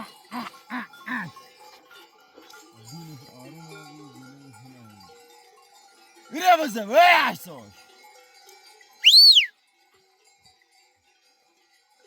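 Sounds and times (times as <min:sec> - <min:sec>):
sheep bells clinking: 0:00.0 - 0:12.0.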